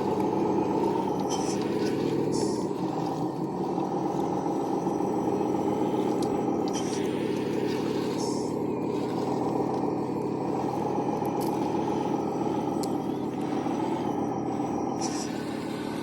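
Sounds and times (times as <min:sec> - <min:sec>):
electric motors whirring: 0:00.0 - 0:16.0.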